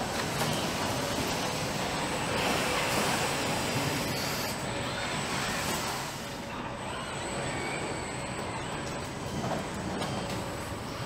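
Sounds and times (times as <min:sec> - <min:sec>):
assembly line machinery: 0:00.0 - 0:11.0.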